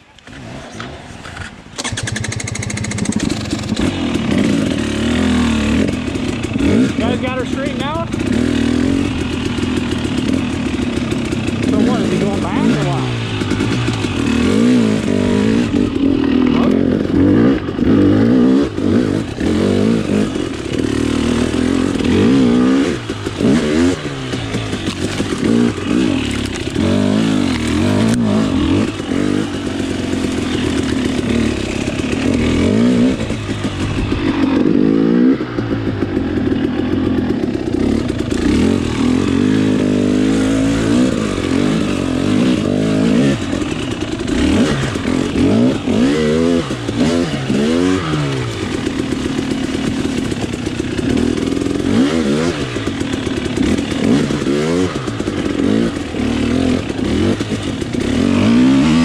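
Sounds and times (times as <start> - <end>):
dirt bike engine revving: 0.2 - 59.0.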